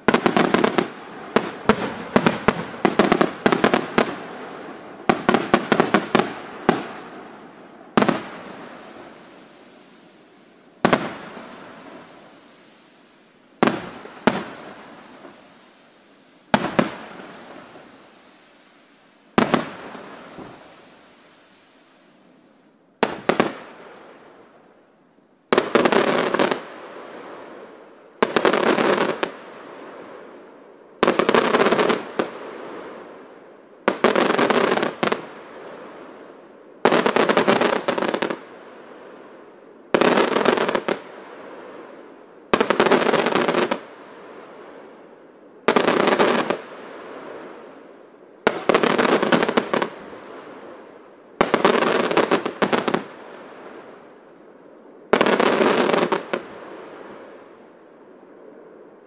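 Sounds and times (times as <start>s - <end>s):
firework crackling: 0.0s - 24.8s, 25.4s - 59.0s.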